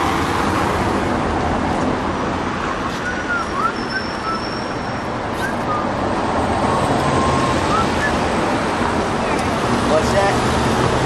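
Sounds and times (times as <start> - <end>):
city road traffic: 0.0 - 11.0.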